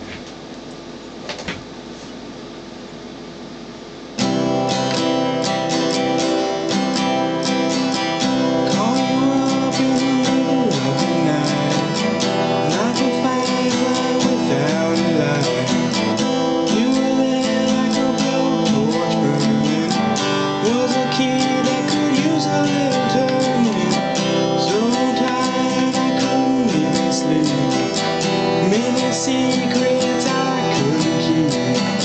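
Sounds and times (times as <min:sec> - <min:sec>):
acoustic guitar strumming: 0:04.2 - 0:32.0.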